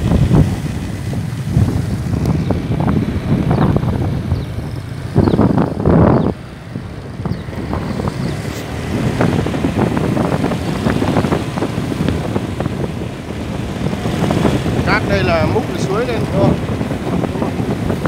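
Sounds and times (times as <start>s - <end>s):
road rumble: 0.0s - 18.0s
wind buffeting microphone: 0.0s - 18.0s.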